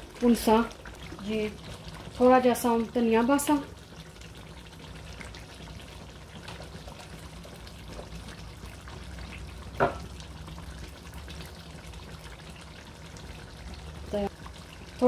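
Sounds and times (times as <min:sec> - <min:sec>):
gravy simmering and bubbling: 0:00.0 - 0:15.0.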